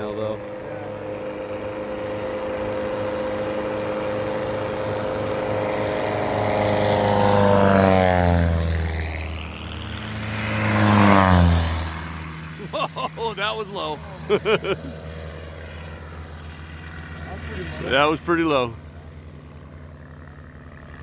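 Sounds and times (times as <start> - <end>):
light plane flying past: 0.0 - 21.0.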